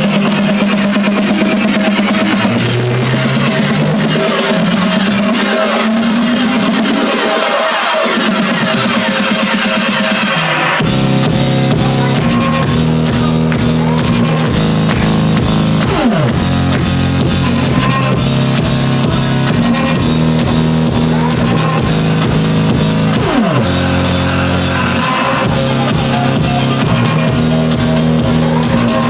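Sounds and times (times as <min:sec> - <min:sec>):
electronic dance music: 0:00.0 - 0:29.0.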